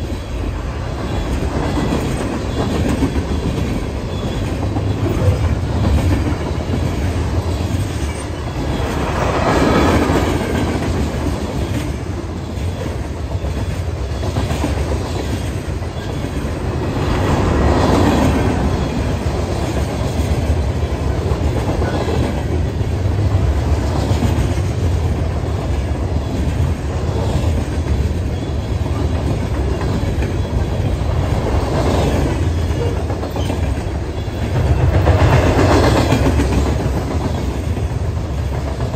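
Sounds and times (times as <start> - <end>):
train wheels rumbling on rails: 0.0 - 38.9
wheels clacking over rail joints: 0.0 - 38.9.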